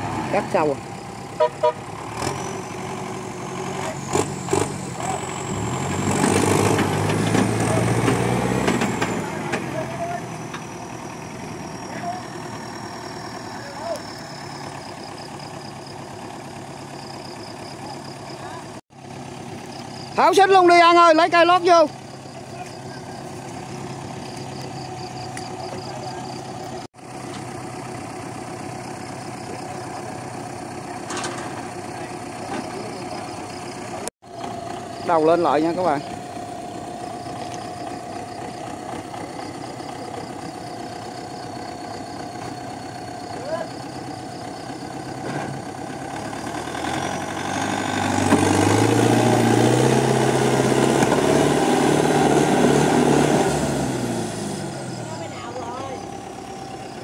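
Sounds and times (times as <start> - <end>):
tractor diesel engine idling: 0.0 - 6.0, 6.9 - 57.0.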